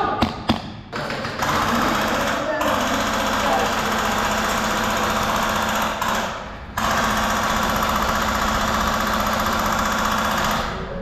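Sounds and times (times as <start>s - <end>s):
airsoft gun full-auto rattle: 1.0s - 10.8s.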